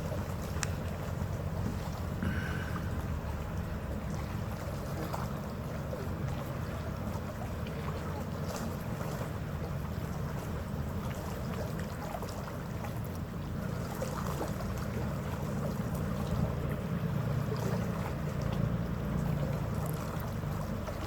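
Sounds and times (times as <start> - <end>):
ferry engines rumbling: 0.0 - 21.0
water rushing past hull: 0.0 - 21.0.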